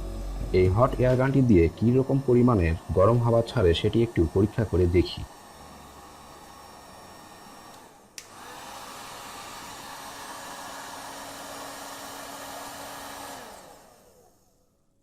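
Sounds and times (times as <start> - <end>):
hot air gun fan blowing: 0.0 - 14.3.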